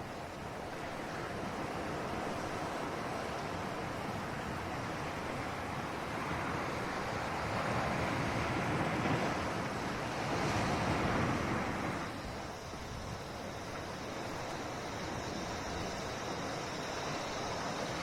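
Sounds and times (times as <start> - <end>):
ocean waves washing onto shore: 0.0 - 18.0.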